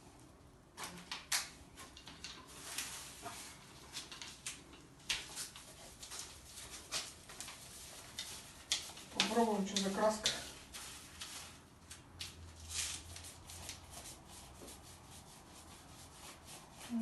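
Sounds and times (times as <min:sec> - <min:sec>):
paint roller swishing on wall: 0:00.8 - 0:17.0.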